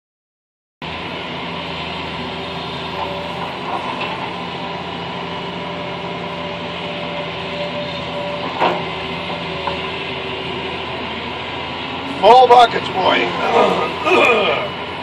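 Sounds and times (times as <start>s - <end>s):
excavator engine and hydraulics: 0.8s - 15.0s.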